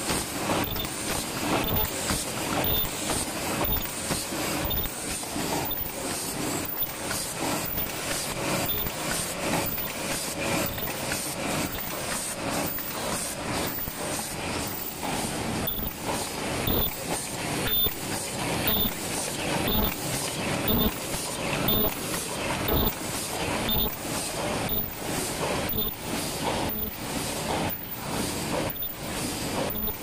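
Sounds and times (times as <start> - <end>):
rhythmic machine clatter: 0.0 - 30.0.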